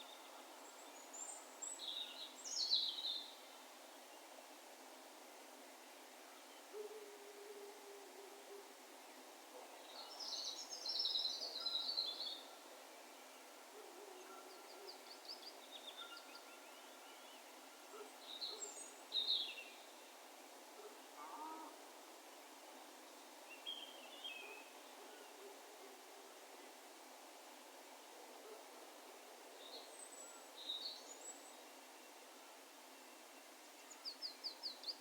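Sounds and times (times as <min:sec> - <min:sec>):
soft steady hiss: 0:00.0 - 0:35.0.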